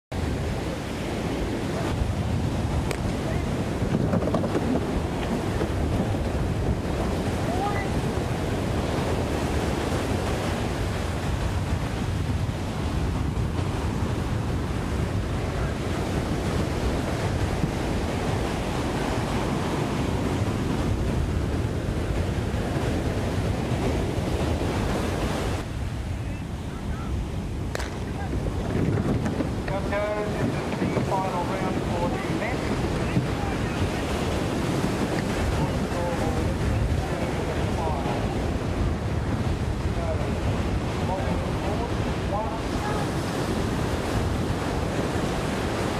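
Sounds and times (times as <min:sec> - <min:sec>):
surf breaking and washing: 0:00.1 - 0:45.9
wind buffeting microphone: 0:00.1 - 0:45.9.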